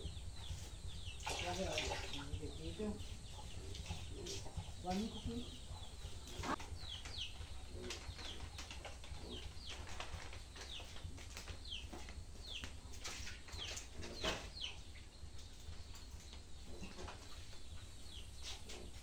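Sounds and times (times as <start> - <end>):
small bird chirping: 0.0 - 19.0.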